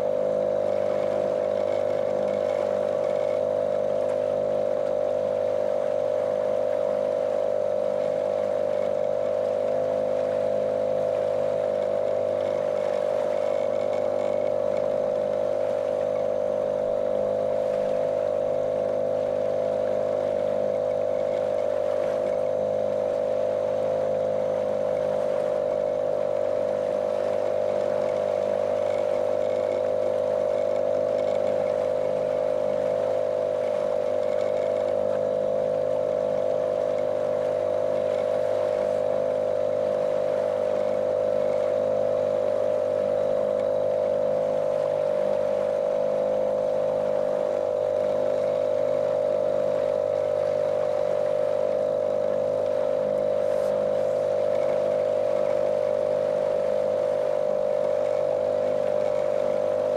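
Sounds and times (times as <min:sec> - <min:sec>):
outboard motor droning: 0:00.0 - 0:59.9
water washing against hull: 0:00.0 - 0:59.9.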